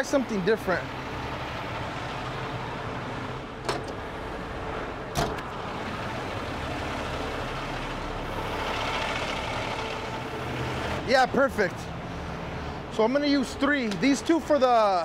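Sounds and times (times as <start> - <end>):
traffic noise: 0.0 - 15.0
truck engines idling: 0.0 - 15.0.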